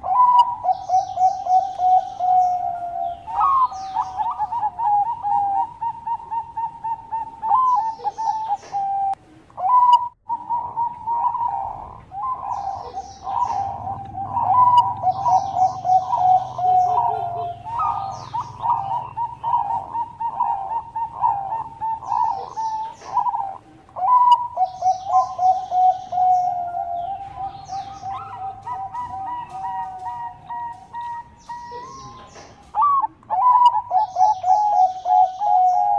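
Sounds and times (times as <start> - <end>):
dove cooing: 0.0 - 35.9
high chirps: 0.0 - 35.9.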